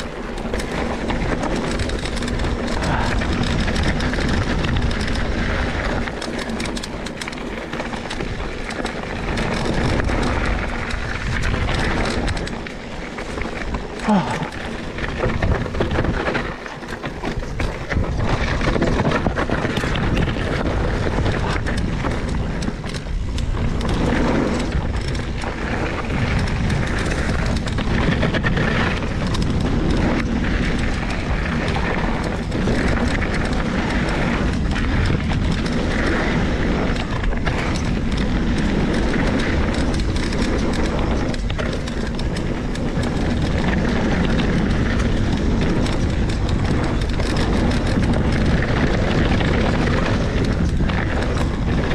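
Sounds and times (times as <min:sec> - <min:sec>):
bike clicks and rattles: 0:00.0 - 0:51.9
tyres on dirt and stones: 0:00.0 - 0:51.9
wind noise on microphone: 0:00.0 - 0:51.9.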